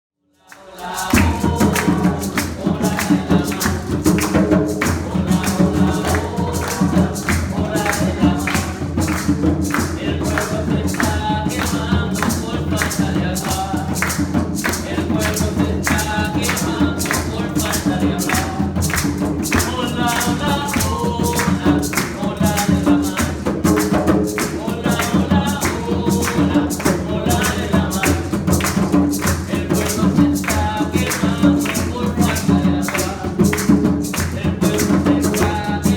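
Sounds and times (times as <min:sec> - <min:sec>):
music with percussion beat: 0:00.4 - 0:35.9
person singing: 0:00.4 - 0:35.9.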